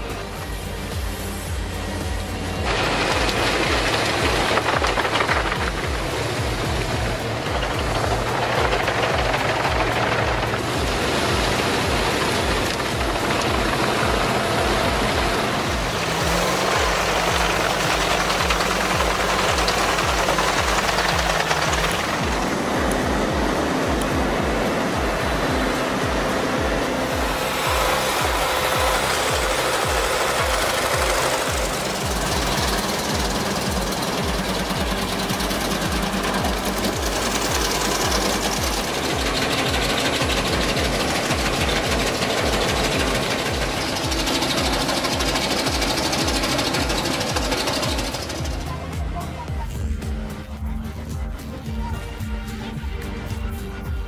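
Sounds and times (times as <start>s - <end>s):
low thumping beat: 0.0s - 54.0s
wood chipper shredding brush: 0.0s - 54.0s.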